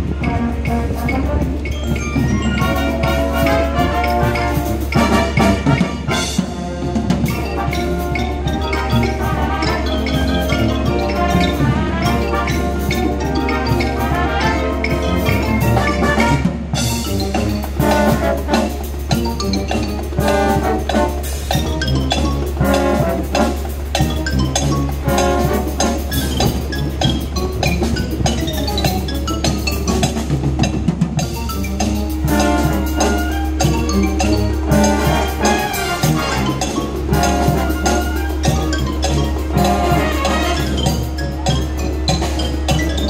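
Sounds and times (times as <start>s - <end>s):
drum kit and cymbals: 0.0s - 43.0s
marimba and xylophone: 0.0s - 43.0s
trumpets and trombones: 0.0s - 43.0s.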